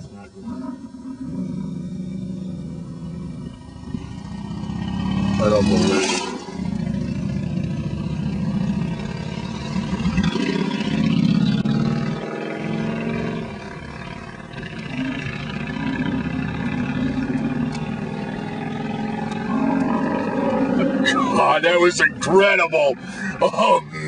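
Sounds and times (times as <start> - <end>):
bison bellowing: 0.0 - 24.0.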